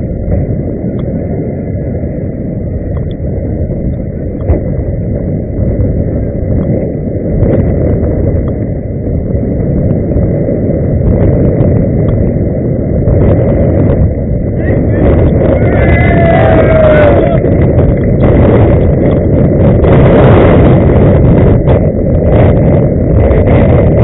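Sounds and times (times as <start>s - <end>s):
inline skates rolling on road: 0.0s - 24.0s.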